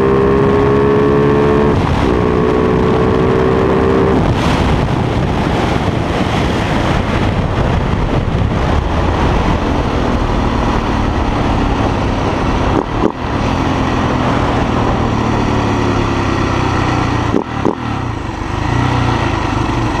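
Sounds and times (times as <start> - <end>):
motorcycle engine running: 0.0 - 20.0
wind rush: 0.0 - 20.0.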